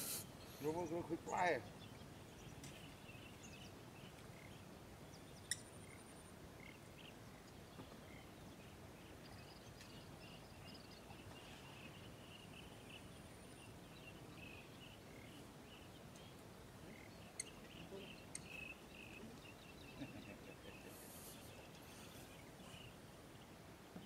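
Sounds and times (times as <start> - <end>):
soft bird chirps: 0.0 - 24.0.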